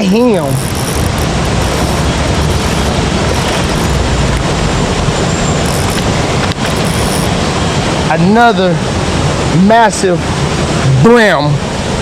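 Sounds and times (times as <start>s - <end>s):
steady loud rushing noise: 0.0s - 12.0s.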